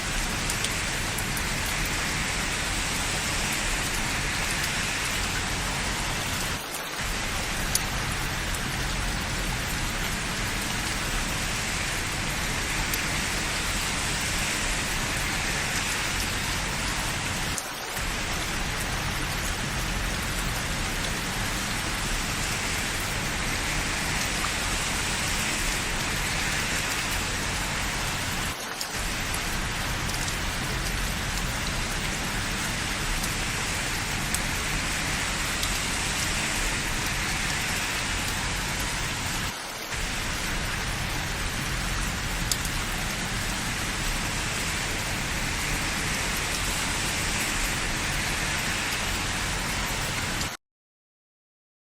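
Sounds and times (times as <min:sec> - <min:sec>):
steady rain falling: 0:00.0 - 0:50.6.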